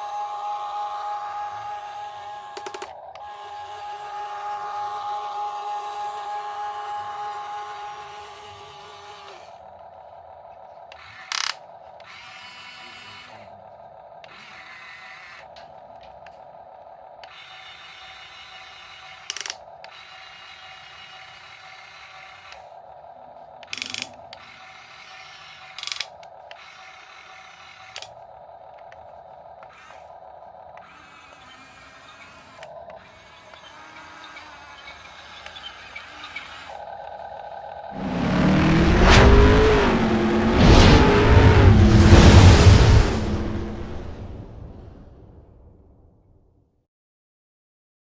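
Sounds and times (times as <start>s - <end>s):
electric gear motors whirring: 0.0s - 16.2s, 17.0s - 39.8s.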